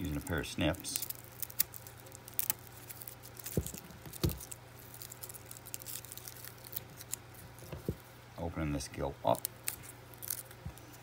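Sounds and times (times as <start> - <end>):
dry gill crackling: 0.0 - 8.0, 9.2 - 11.0.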